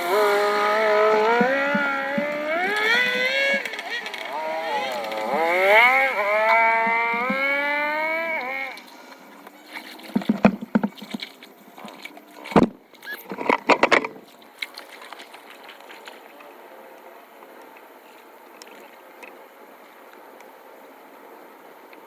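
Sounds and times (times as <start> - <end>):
rush of water: 0.0 - 22.0.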